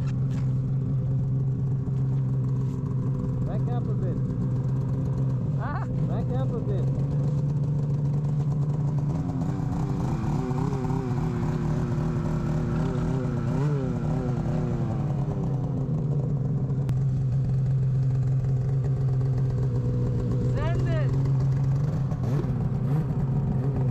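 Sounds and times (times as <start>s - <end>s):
snowmobile engine idling: 0.0s - 23.9s.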